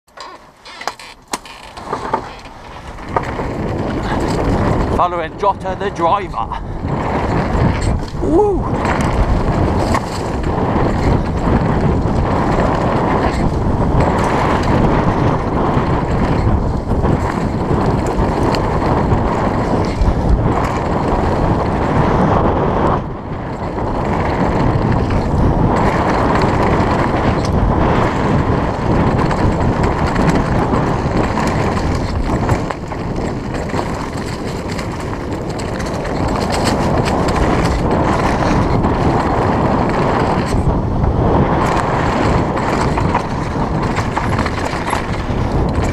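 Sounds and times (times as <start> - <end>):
bike rattling over bumps: 0.1 - 45.9
tyres on loose dirt: 0.1 - 45.9
wind on microphone: 0.6 - 45.9.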